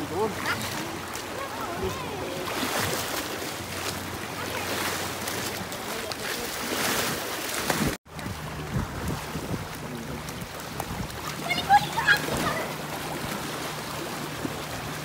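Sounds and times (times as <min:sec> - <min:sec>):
rushing splashing water: 0:00.0 - 0:15.0.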